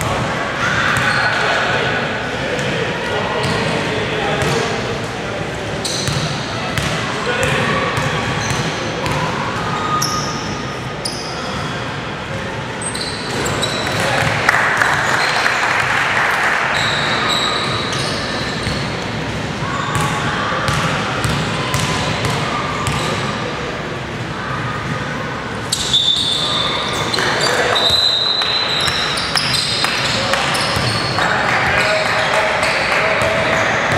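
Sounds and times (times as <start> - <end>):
players' voices: 0.0 - 33.9.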